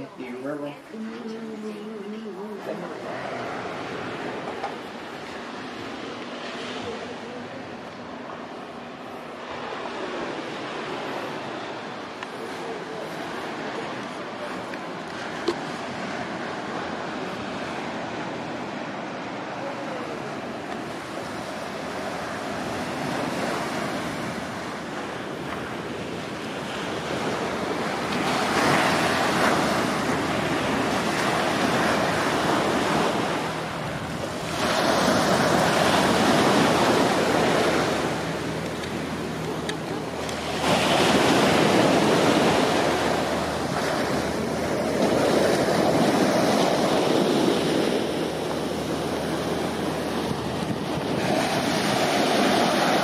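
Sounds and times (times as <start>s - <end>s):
surf breaking on beach: 0.0s - 53.0s.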